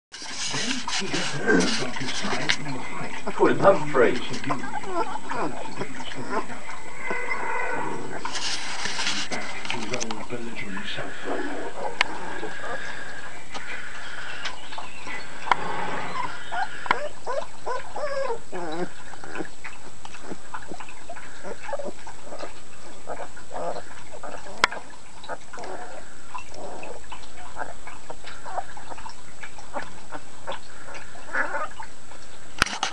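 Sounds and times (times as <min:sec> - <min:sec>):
puppies whining and squeaking: 0:00.2 - 0:10.0, 0:10.8 - 0:32.9.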